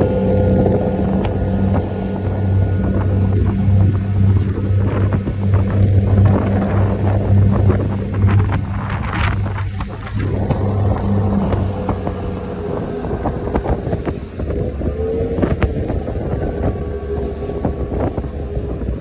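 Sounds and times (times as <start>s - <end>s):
ferry engines droning: 0.0s - 19.0s
water rushing along hull: 0.0s - 19.0s
wind buffeting microphone: 0.0s - 19.0s.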